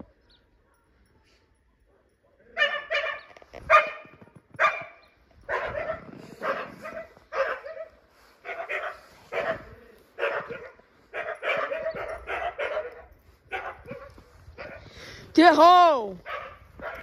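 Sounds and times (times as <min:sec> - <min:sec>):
dog barking: 0:01.9 - 0:14.9, 0:16.2 - 0:17.0.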